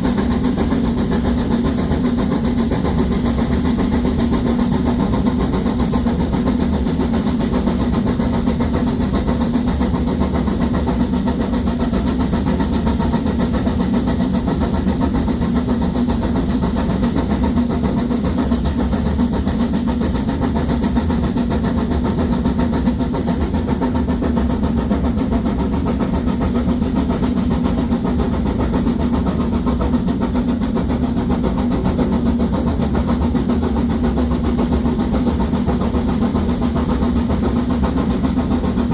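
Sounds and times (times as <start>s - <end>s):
steam locomotive exhaust beats: 0.0s - 38.9s.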